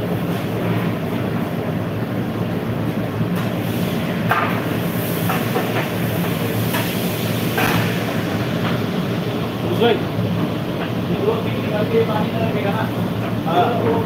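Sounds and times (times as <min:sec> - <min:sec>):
gas burners and extraction hood: 0:00.0 - 0:14.0.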